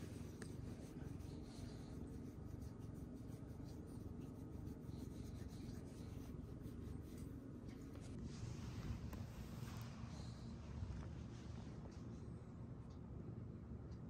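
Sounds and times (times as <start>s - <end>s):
hand rubbing cat fur: 0.0s - 11.5s
steady low rumble: 0.0s - 14.0s.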